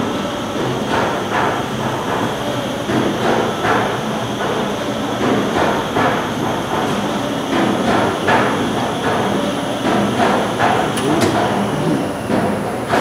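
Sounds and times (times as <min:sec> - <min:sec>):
industrial washer running: 0:00.0 - 0:13.0
rhythmic mechanical knocks: 0:00.1 - 0:13.0.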